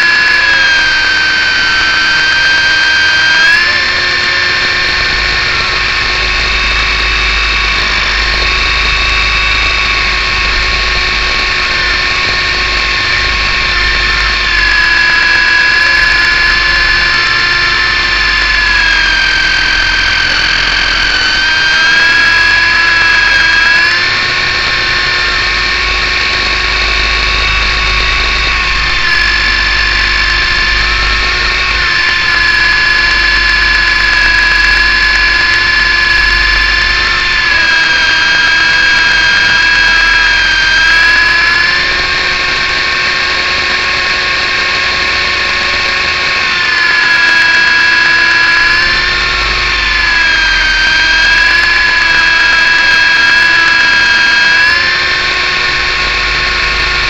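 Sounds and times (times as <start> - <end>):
rc helicopter motor whining: 0.0 - 57.0.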